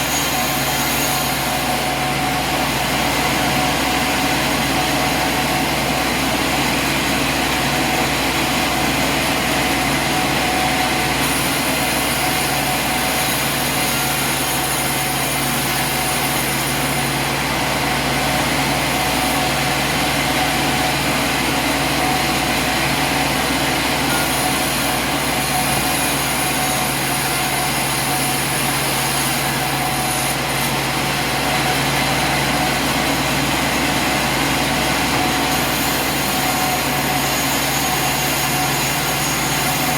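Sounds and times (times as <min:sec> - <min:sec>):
sawmill machinery humming and whining: 0:00.0 - 0:39.9.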